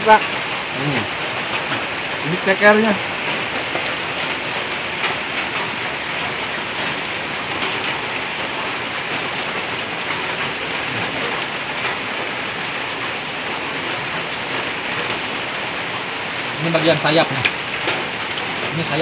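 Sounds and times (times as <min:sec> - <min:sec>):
heavy rain on a metal roof: 0:00.0 - 0:19.0.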